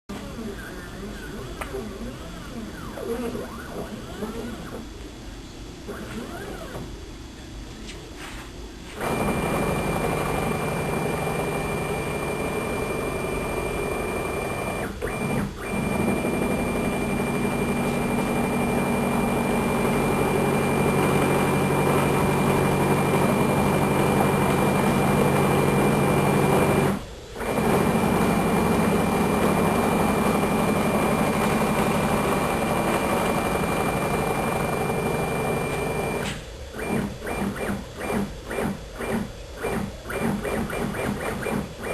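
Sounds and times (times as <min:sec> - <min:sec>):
machine drive drone and whine: 0:00.1 - 0:41.9.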